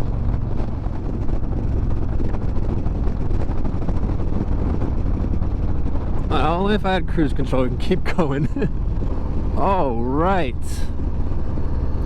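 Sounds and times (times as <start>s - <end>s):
motorcycle engine cruising: 0.0s - 12.0s
wind rushing over microphone: 0.0s - 12.0s.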